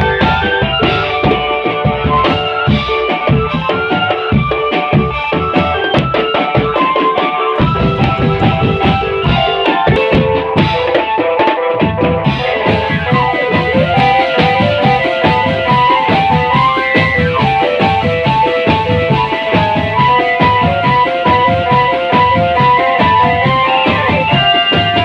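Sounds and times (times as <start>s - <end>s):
marching drum band music: 0.0s - 25.0s.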